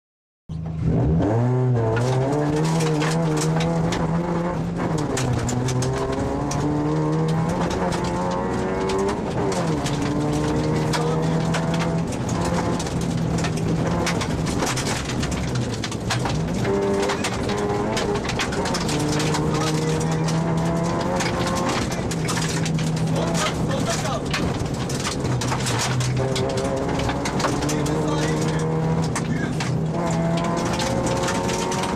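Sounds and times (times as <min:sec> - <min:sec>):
rally car engine accelerating: 0:00.5 - 0:31.9
gravel clattering against car: 0:01.9 - 0:31.9.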